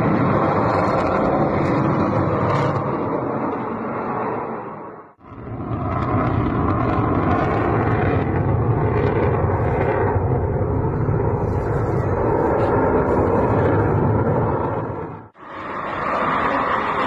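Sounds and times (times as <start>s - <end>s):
fighter jet engine rumble: 0.0s - 17.0s.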